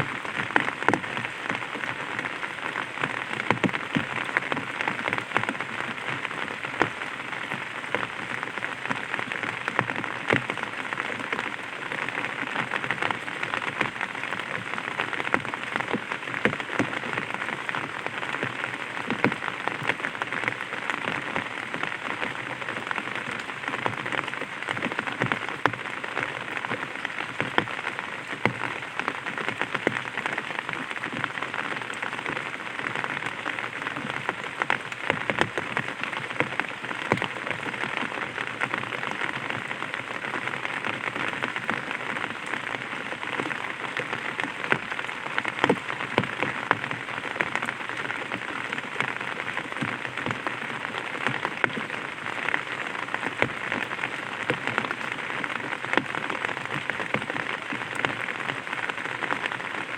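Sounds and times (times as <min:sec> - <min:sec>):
raindrops tapping on umbrella: 0:00.0 - 0:59.9.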